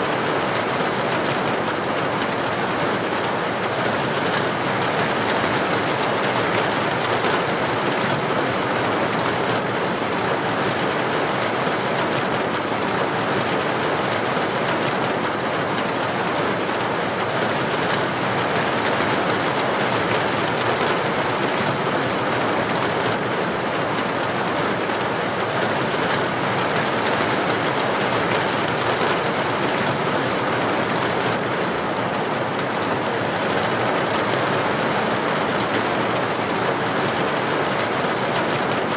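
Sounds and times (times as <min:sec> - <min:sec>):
heavy rain on a street: 0:00.0 - 0:38.9.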